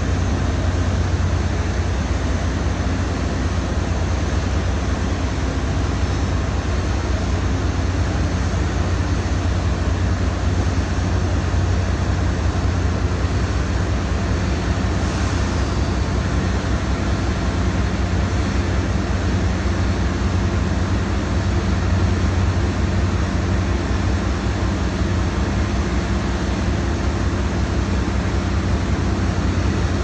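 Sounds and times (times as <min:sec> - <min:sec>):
heavy machinery droning: 0:00.0 - 0:30.0.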